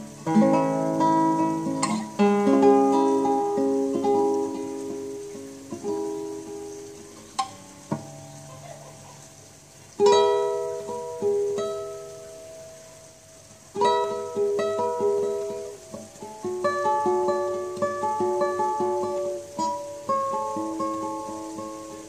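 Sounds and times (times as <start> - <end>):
fingerpicked classical guitar: 0.0 - 22.0.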